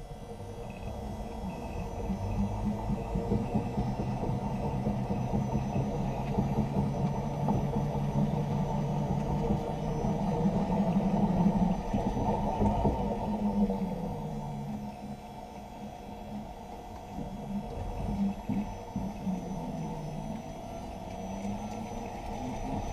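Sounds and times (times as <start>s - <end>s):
electric car driveline rumble: 0.0s - 22.9s.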